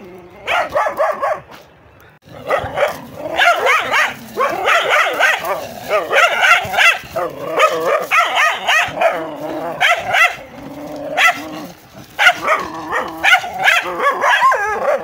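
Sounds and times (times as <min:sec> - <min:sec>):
dog growling: 0:00.0 - 0:00.8, 0:02.2 - 0:15.0
dogs barking and yelping: 0:00.0 - 0:01.7, 0:02.3 - 0:15.0.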